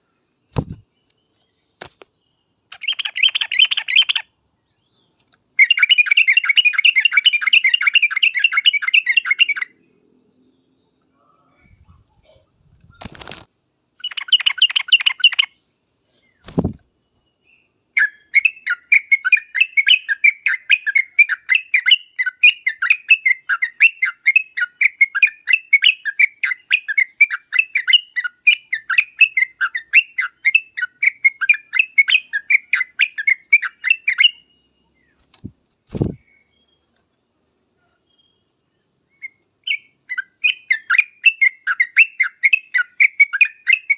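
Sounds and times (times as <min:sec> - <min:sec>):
bird chirping rapidly: 0:00.0 - 0:04.4, 0:05.6 - 0:10.2, 0:14.0 - 0:15.6, 0:16.4 - 0:36.9, 0:38.2 - 0:43.9.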